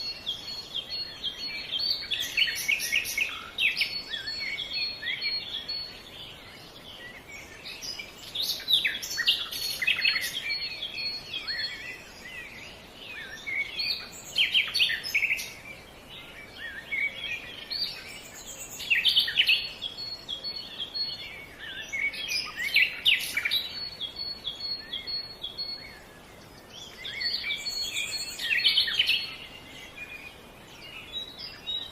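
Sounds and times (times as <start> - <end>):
birds singing and chirping: 0.0 - 31.9
faint outdoor hiss: 0.0 - 31.9.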